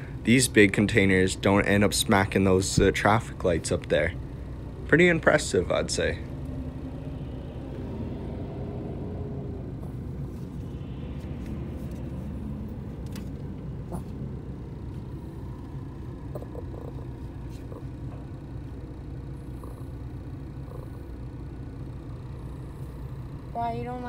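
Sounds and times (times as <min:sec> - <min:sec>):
heavy traffic rumble: 0:00.0 - 0:24.0.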